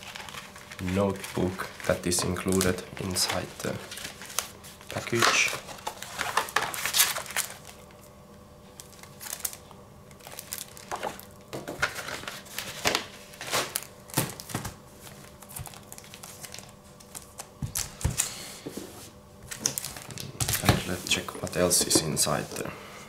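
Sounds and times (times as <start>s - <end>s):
card packaging rustling: 0.0s - 8.1s, 8.8s - 22.7s
plastic sleeve crinkling: 0.0s - 8.1s, 8.8s - 18.3s, 19.5s - 22.6s.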